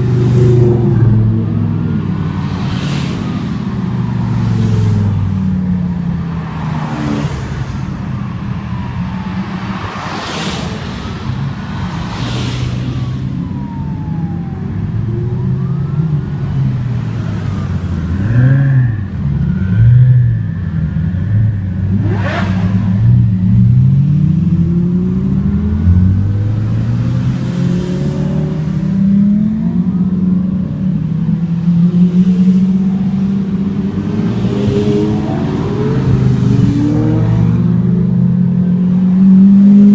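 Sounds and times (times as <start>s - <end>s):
sports car engines revving: 0.0s - 39.9s.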